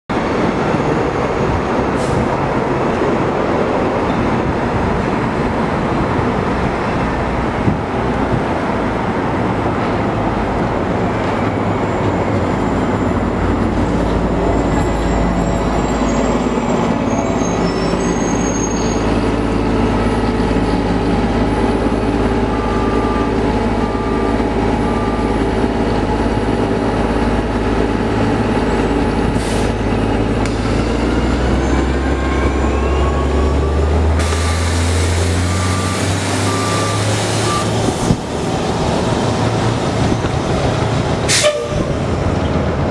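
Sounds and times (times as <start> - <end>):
bus engine hum: 0.1 - 42.9
street traffic: 0.1 - 42.9.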